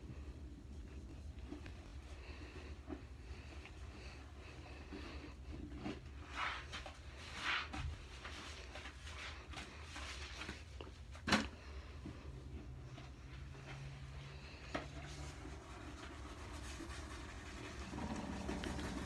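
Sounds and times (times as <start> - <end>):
sponge scrubbing toilet bowl: 0.0 - 11.1, 11.8 - 19.0.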